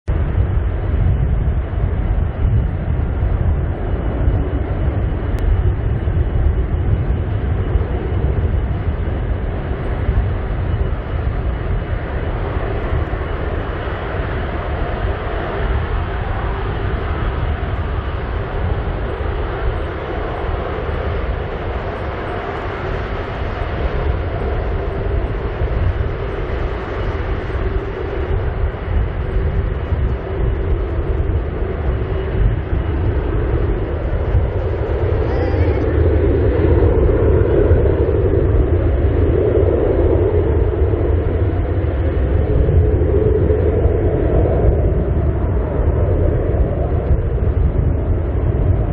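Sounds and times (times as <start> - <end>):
jet engines at take-off: 0.1 - 48.9.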